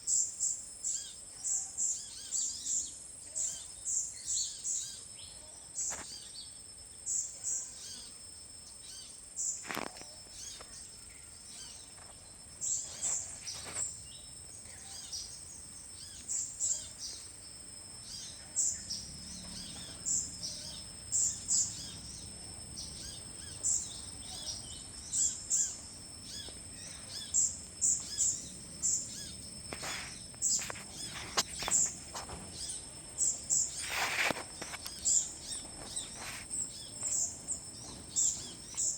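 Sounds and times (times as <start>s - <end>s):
small birds chirping: 0.0s - 38.9s
high-pitched insect drone: 5.8s - 38.9s.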